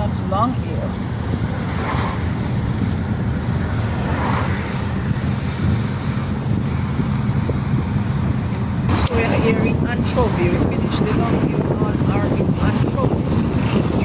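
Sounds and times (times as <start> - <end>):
car road and engine noise: 0.0 - 14.0
wind buffeting microphone: 0.0 - 14.0.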